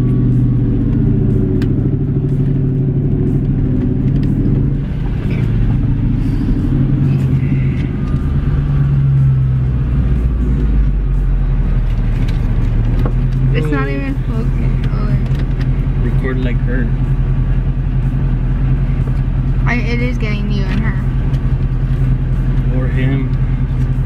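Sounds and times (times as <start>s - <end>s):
car engine low drone: 0.0s - 24.0s.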